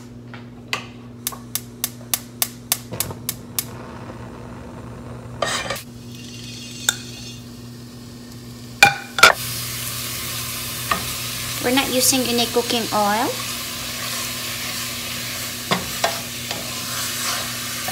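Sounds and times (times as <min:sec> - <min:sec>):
sausage sizzling in a pan: 0:03.4 - 0:17.9.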